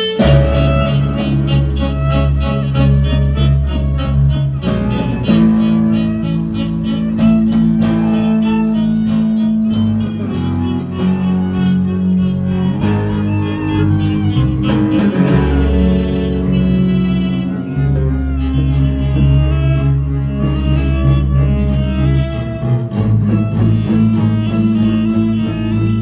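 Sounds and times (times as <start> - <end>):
cello holding long notes: 0.0 - 26.0
double bass line: 0.0 - 26.0
plucked strings: 0.0 - 26.0
violin holding long notes: 0.0 - 26.0.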